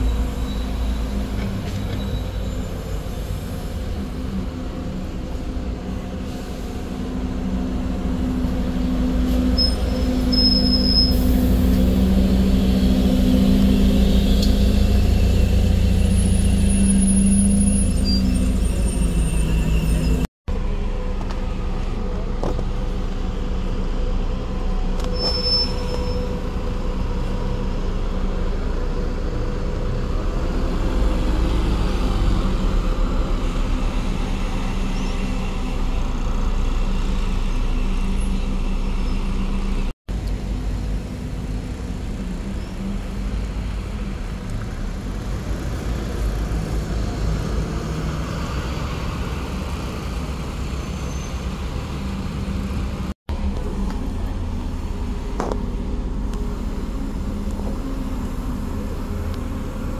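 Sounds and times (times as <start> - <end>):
diesel bus engine rumble: 0.0 - 59.9
road traffic noise: 0.0 - 59.9.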